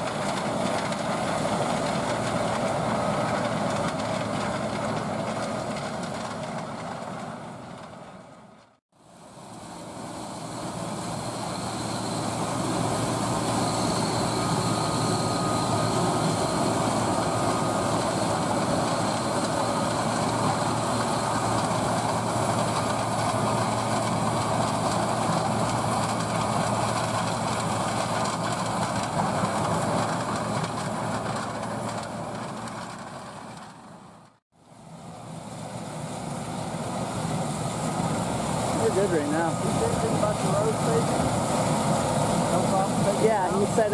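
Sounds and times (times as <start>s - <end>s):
farm machinery rattling drone: 0.0s - 8.3s, 9.4s - 34.3s, 35.0s - 43.9s.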